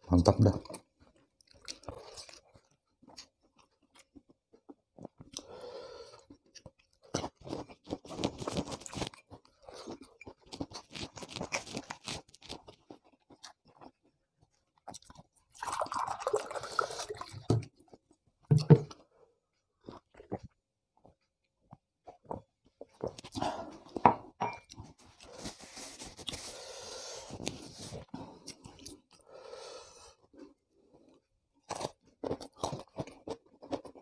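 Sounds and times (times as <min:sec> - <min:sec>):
person chewing food: 0:00.6 - 0:34.0.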